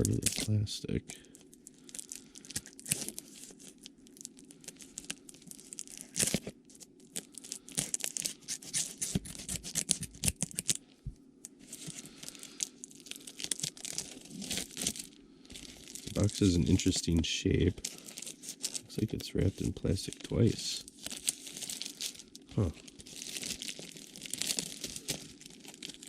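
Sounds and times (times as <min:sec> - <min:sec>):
plastic wrap ripping: 0:00.0 - 0:00.7, 0:01.8 - 0:10.8, 0:11.7 - 0:26.0
plastic wrap crinkling: 0:00.0 - 0:10.8, 0:11.5 - 0:26.0.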